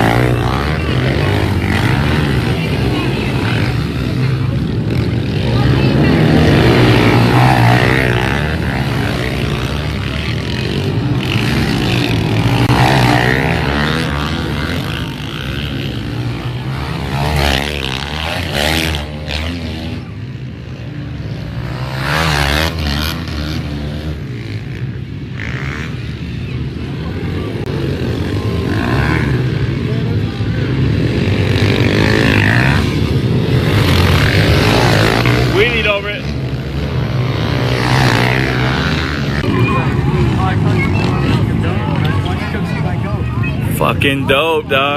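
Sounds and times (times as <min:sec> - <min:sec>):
pit bike engines revving past: 0:00.0 - 0:44.9.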